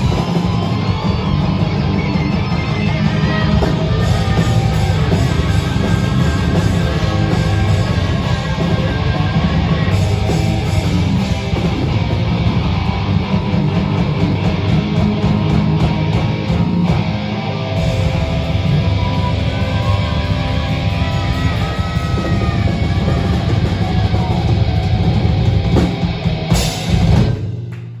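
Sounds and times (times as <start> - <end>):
rock band playing: 0.0 - 28.0.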